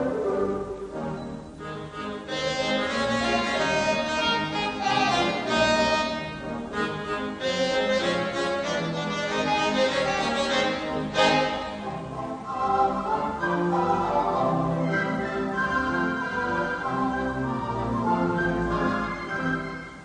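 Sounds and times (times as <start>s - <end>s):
string music with violins: 0.0s - 20.0s.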